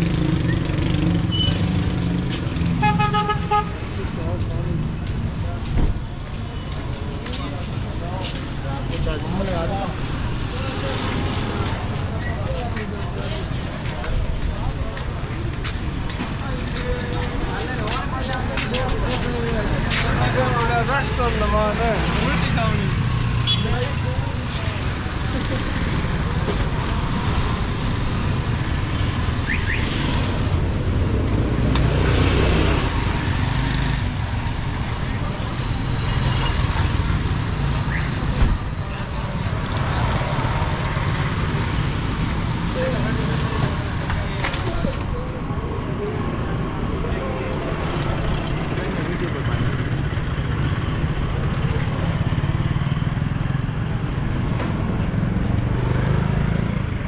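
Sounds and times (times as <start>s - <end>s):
motorcycle and rickshaw engines: 0.0s - 57.0s
traffic hum: 0.0s - 57.0s.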